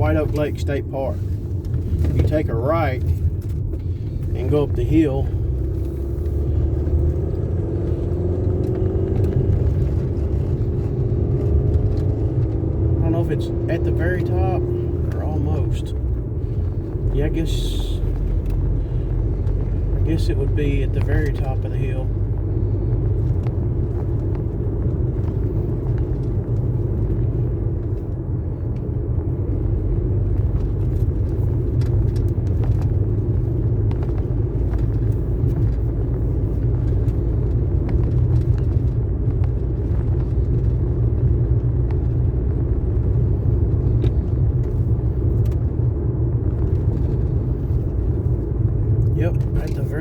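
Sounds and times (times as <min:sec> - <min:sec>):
vehicle engine rumble: 0:00.0 - 0:50.0.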